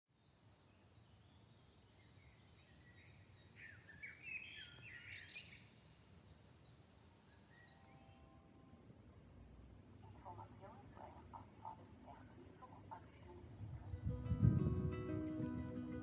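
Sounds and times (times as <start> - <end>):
faint birdsong: 0.1 - 14.2.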